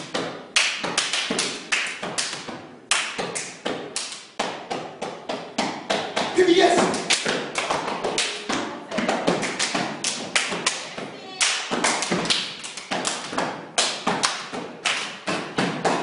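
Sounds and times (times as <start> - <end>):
hand claps: 0.5 - 16.0.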